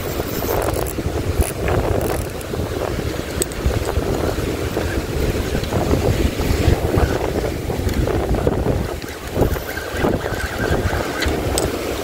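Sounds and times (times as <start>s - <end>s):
sea water washing around hull: 0.0s - 12.0s
wind buffeting microphone: 0.0s - 12.0s.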